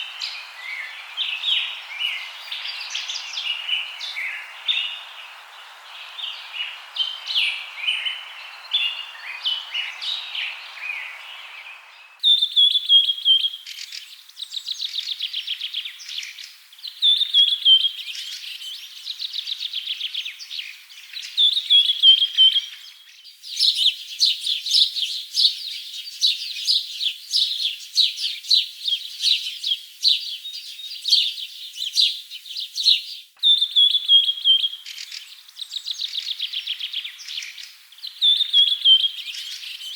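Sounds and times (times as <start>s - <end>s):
forest birds singing and chirping: 0.0s - 39.9s.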